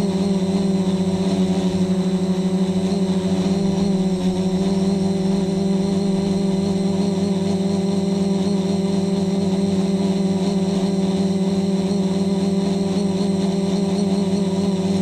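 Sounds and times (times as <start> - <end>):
drone motors and propellers droning: 0.0 - 15.0.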